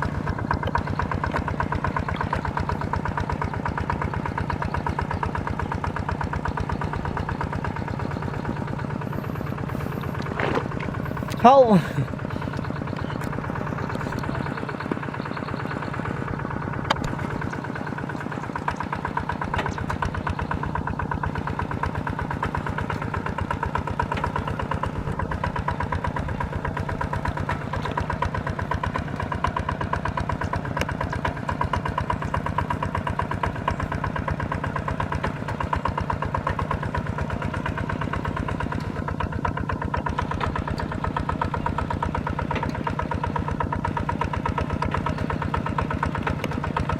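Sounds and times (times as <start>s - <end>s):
small tractor engine running: 0.0s - 46.9s.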